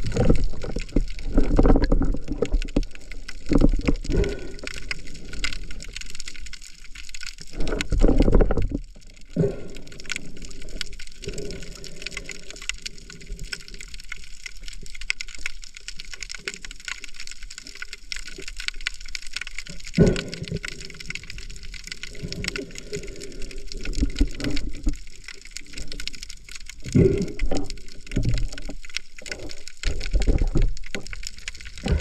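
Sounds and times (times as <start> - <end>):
fine underwater crackle of clicks: 0.0 - 32.0.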